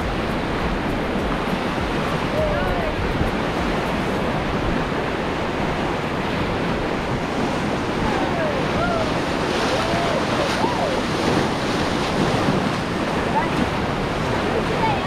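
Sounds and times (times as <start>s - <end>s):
whitewater rushing: 0.0s - 15.0s
wind buffeting microphone: 0.0s - 15.0s.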